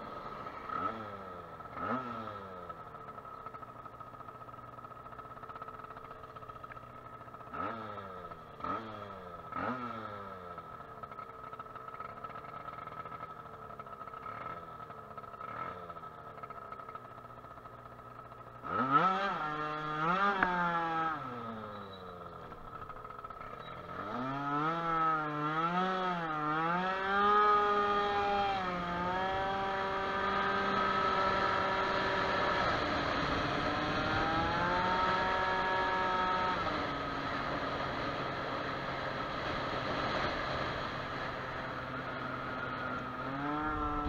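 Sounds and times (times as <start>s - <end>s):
scooter engine idling and revving: 0.0s - 44.0s.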